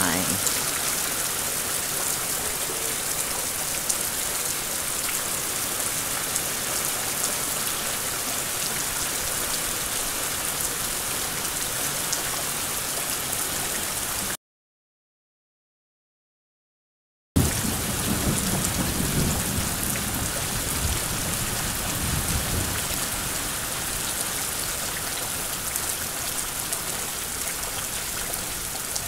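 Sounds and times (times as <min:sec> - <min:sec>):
rain falling steadily: 0:00.0 - 0:14.4, 0:17.4 - 0:29.0.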